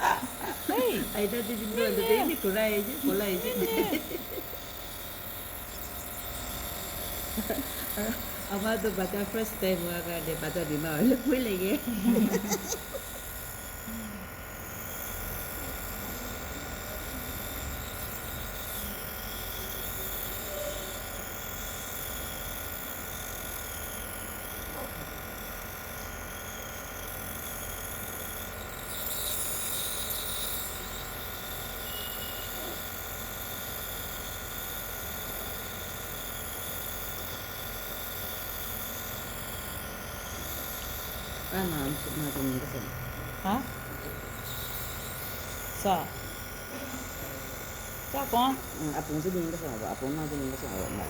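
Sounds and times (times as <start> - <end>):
small electric motor buzzing: 0.0 - 51.0.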